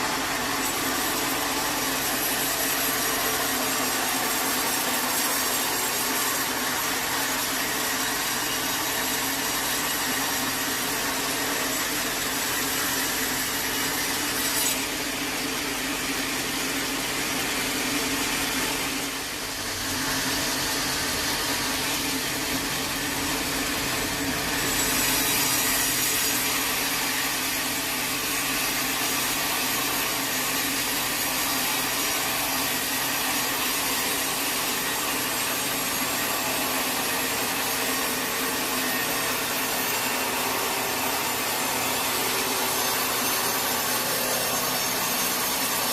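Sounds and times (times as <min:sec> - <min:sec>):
saw cutting through a log: 0:00.0 - 0:45.9.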